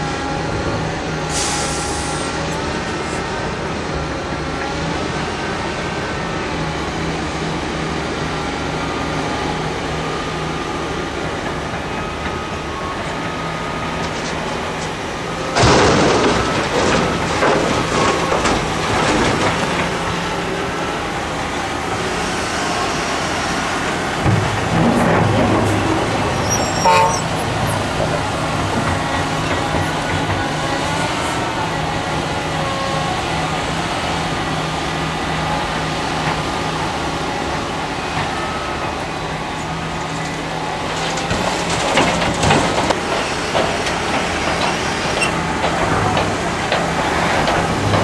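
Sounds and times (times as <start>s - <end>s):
truck diesel engine: 0.0s - 48.0s.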